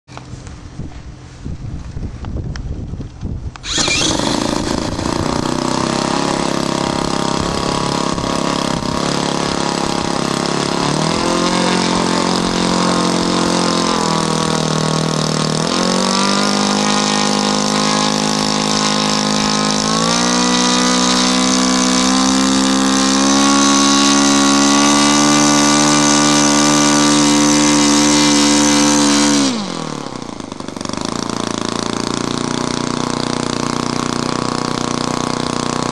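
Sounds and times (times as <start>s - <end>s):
aircraft piston engine running up: 3.6s - 35.9s.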